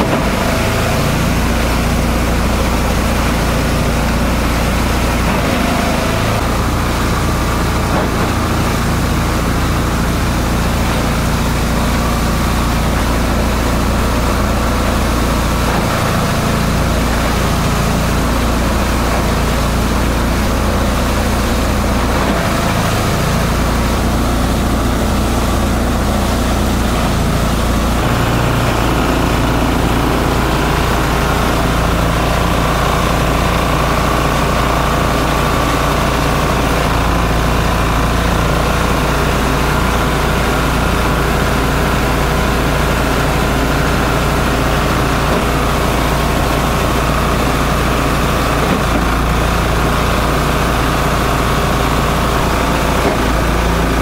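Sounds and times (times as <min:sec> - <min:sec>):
shredder machine shredding: 0:00.0 - 0:54.0.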